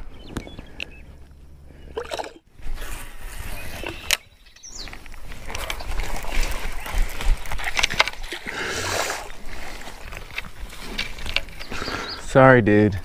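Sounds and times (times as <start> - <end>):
wind rumbling on microphone: 0.0 - 12.2.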